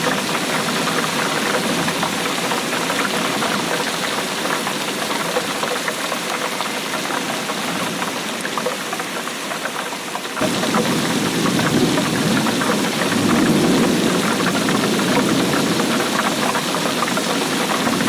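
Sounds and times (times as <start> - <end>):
rain drops striking a surface: 0.0 - 18.0.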